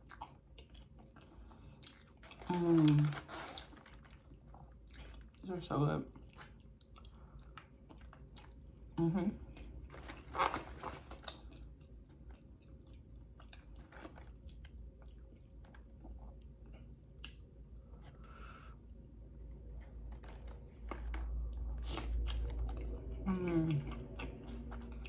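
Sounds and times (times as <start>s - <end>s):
faint chewing with mouth clicks: 0.0s - 2.6s, 3.2s - 5.5s, 6.1s - 25.0s.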